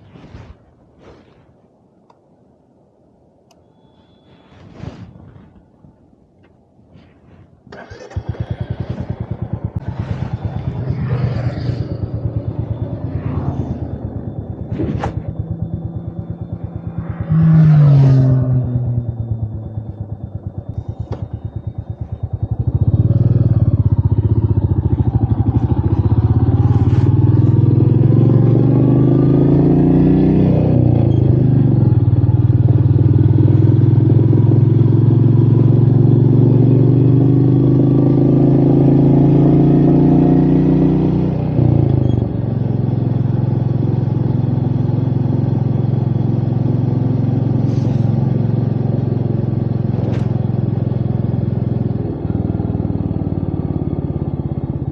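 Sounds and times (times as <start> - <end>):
motorcycle engine revving: 7.7 - 54.9.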